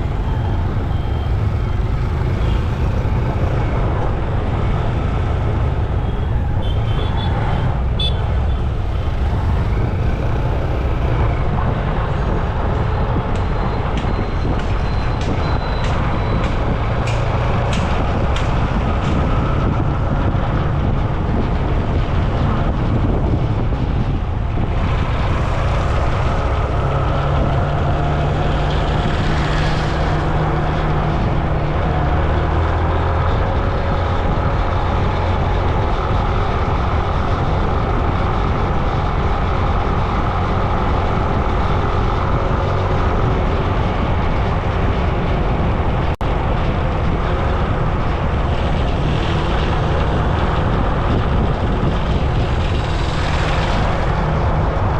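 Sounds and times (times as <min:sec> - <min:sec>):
vehicle road noise rumble: 0:00.0 - 0:54.9.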